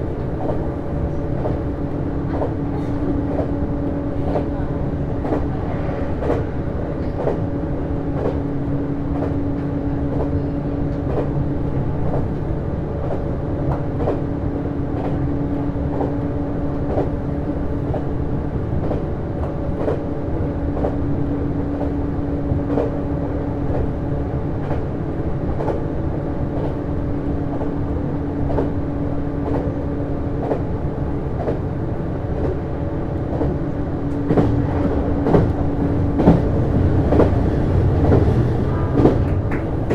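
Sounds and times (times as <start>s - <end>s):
train drive hum: 0.0s - 39.9s.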